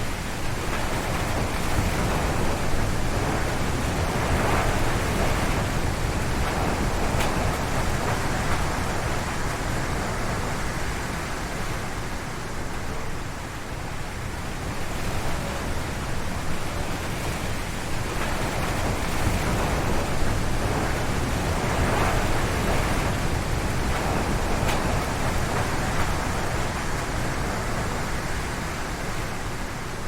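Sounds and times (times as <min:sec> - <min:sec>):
strong wind through trees: 0:00.0 - 0:30.0.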